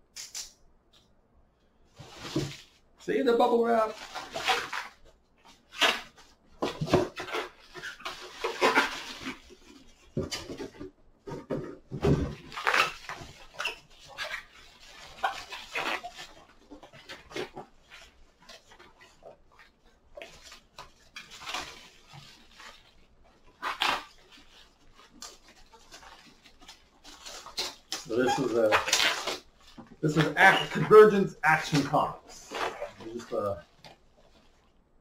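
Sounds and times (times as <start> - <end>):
bubble wrap crinkling and squeaking: 2.0 - 35.0.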